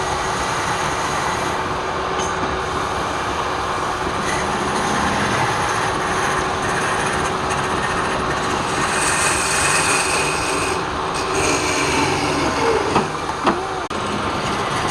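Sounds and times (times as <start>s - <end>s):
wood lathe rushing: 0.0s - 1.7s, 3.8s - 14.9s.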